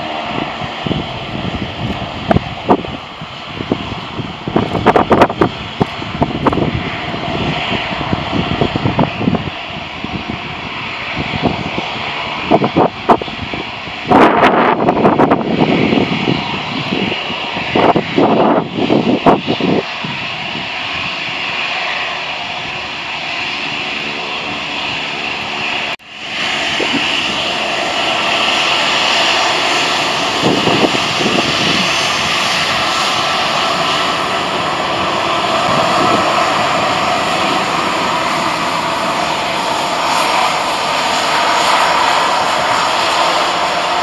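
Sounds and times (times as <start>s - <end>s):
jet engines whining: 0.0s - 44.0s
wind buffeting microphone: 0.0s - 44.0s.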